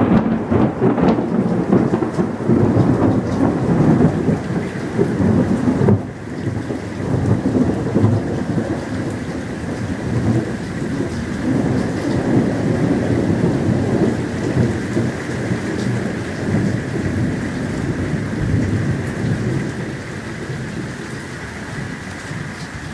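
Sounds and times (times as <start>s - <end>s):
rolling thunder: 0.0s - 22.9s
steady rain: 0.0s - 22.9s.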